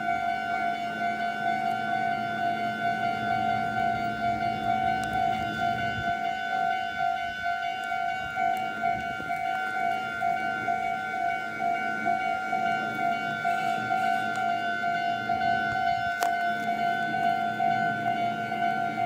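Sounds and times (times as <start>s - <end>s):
level crossing alarm pulsing: 0.0s - 19.0s.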